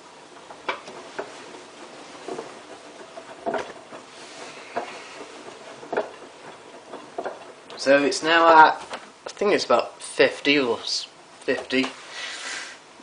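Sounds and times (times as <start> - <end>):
washing machine churning: 0.0 - 13.0.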